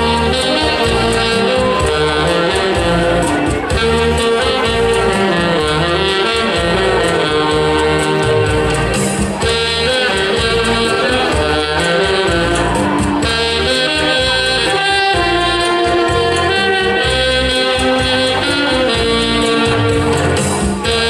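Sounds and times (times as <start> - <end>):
saxophone ensemble playing: 0.0 - 21.0.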